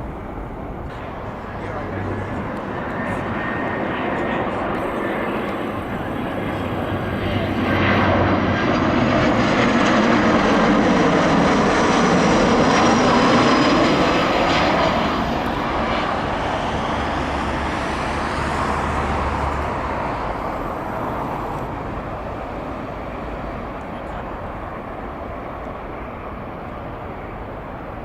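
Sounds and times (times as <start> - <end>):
jet airliner passing: 0.0 - 28.0.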